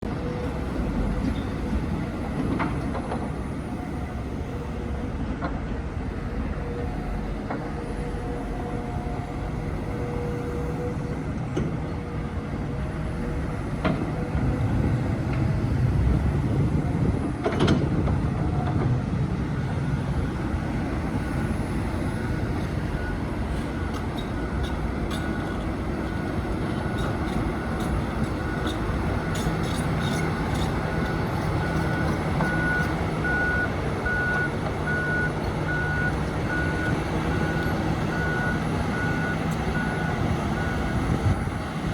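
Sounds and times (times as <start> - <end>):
construction machinery engine rumble: 0.0 - 41.9.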